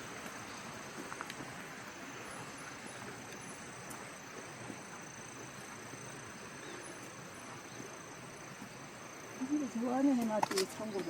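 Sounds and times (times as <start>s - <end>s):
insects trilling: 0.0s - 11.0s
soft steady hiss: 0.0s - 11.0s.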